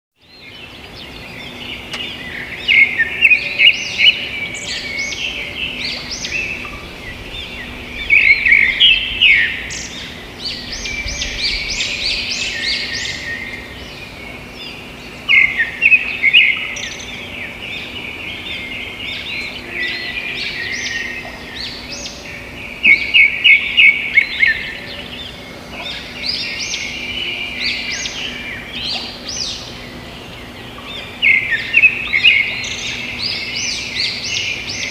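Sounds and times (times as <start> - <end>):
songbirds chorus: 0.2 - 34.9.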